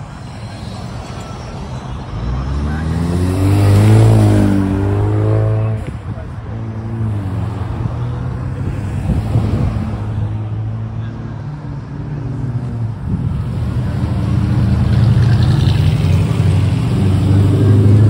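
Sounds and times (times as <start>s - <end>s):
car engines running: 0.0s - 18.0s.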